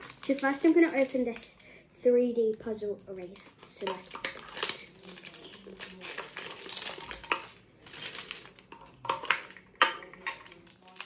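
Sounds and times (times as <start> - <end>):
plastic packaging crinkling: 0.0 - 1.7, 3.1 - 11.0.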